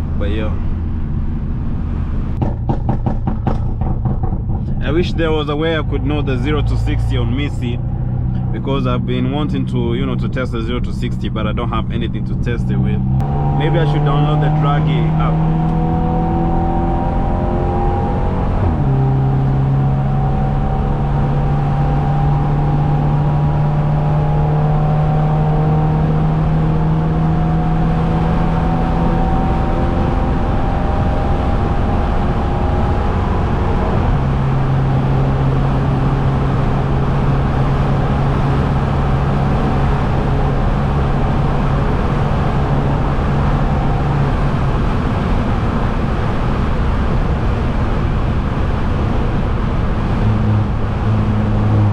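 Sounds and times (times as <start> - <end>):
car engine and exhaust droning: 0.0 - 51.9.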